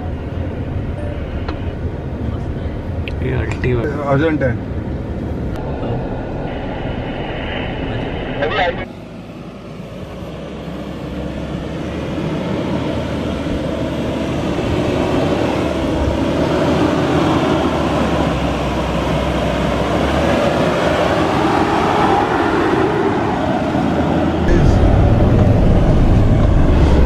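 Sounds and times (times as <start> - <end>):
diesel engine climbing under power: 0.0 - 27.0.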